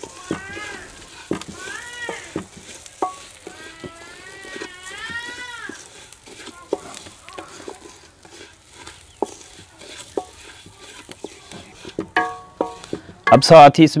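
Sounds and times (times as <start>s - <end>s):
spatula scraping metal pan: 0.0s - 13.7s
spatula tapping pan: 0.0s - 13.7s
soft sizzle: 0.0s - 14.0s.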